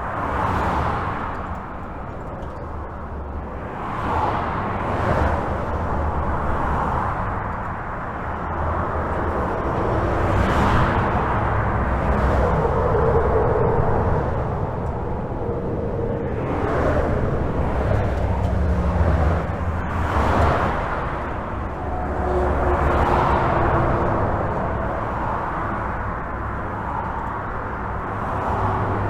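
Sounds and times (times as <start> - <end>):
highway traffic rumble: 0.0 - 29.0
vehicles passing: 0.0 - 29.0.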